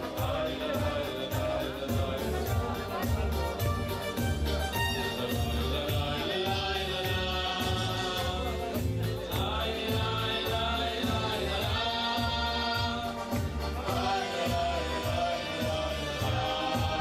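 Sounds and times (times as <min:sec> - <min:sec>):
group of voices singing: 0:00.0 - 0:17.0
steady bass beat: 0:00.0 - 0:17.0.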